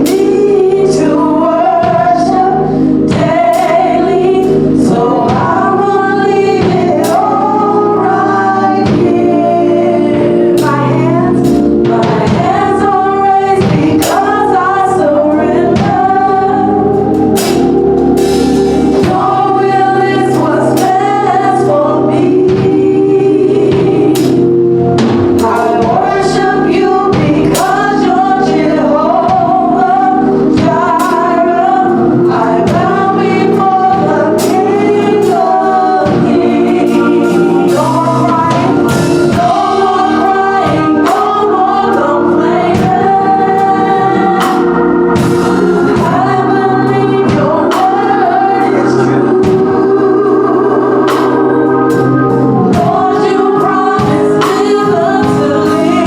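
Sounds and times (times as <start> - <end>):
band playing with steady beat: 0.0 - 56.0
gospel choir singing: 0.0 - 56.0.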